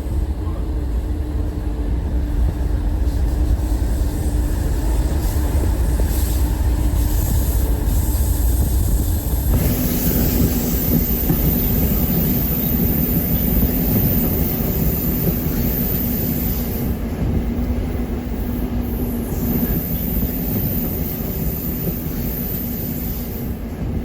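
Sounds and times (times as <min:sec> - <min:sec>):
train rumbling on board: 0:00.0 - 0:24.0.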